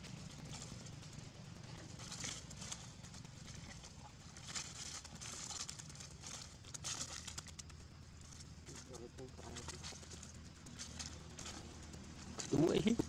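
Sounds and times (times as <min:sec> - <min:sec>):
dry leaves rustling: 0:00.0 - 0:13.0
low background hum: 0:00.0 - 0:13.0.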